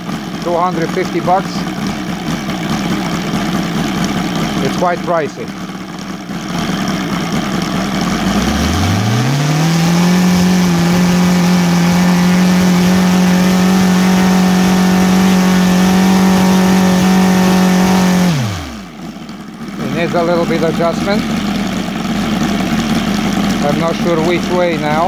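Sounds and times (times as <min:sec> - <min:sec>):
radial engine revving: 0:00.0 - 0:25.0.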